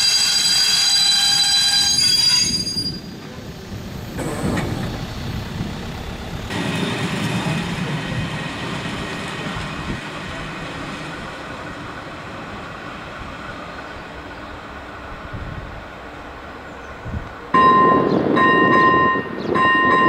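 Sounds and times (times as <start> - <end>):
train rumbling over crossing: 0.0 - 20.0.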